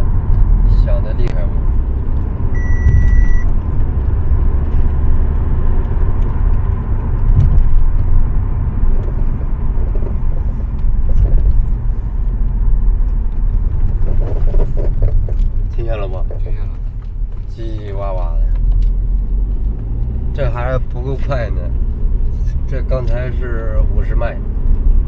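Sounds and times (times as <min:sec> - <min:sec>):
suspension squeaking and creaking: 0:00.0 - 0:24.8
road rumble: 0:00.0 - 0:25.0.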